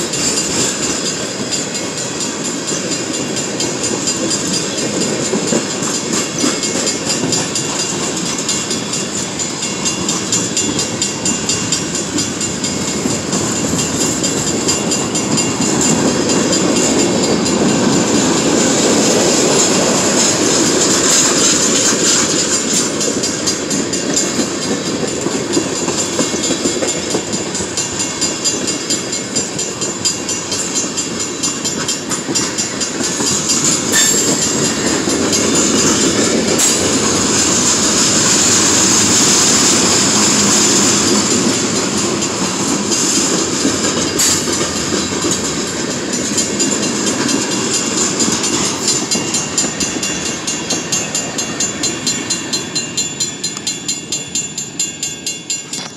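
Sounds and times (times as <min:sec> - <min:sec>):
train wheels clacking over rails: 0:00.0 - 0:55.9.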